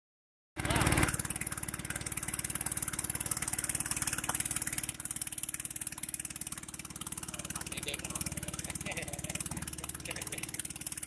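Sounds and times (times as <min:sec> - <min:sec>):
engine idling: 0:00.6 - 0:11.0.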